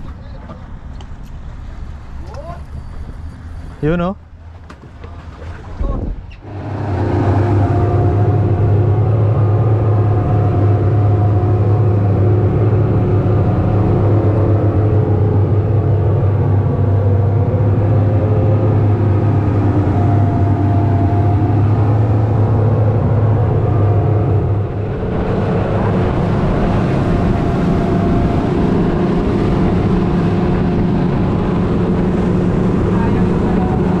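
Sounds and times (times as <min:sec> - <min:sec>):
motorboat engine droning: 0:01.4 - 0:34.0
water rushing from wake: 0:04.8 - 0:34.0.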